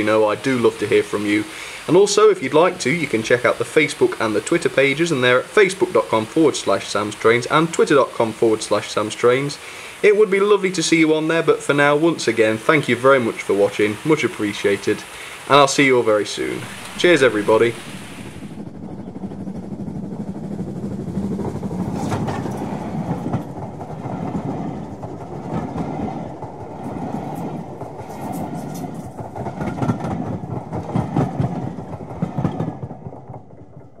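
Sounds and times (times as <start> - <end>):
train wheels clicking over rail joints: 0.0 - 34.0.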